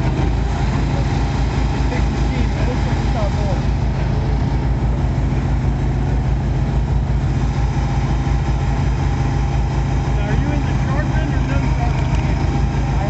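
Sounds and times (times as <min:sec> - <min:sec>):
log splitter engine running: 0:00.0 - 0:13.0.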